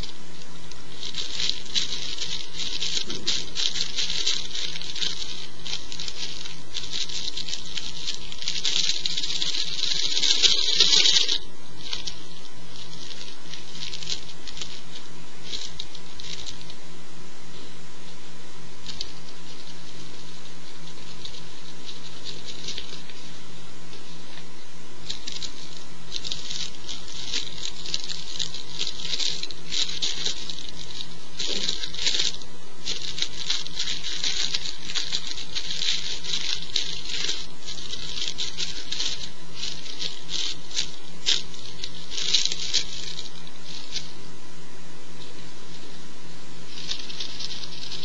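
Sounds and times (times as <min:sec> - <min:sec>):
dry material crackling and rustling: 0:00.0 - 0:48.0
low electrical hum: 0:00.0 - 0:48.0.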